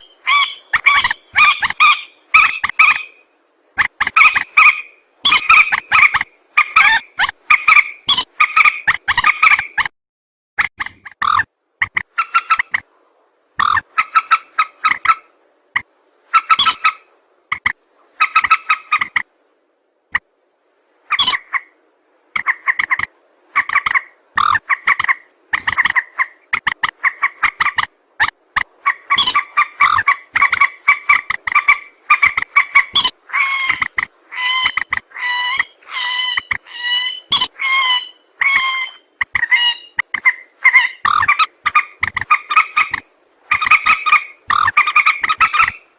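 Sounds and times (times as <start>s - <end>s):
recorded waterbird clucking calls: 0.0s - 3.2s, 3.8s - 9.9s, 10.6s - 12.9s, 13.6s - 19.3s, 21.0s - 45.9s.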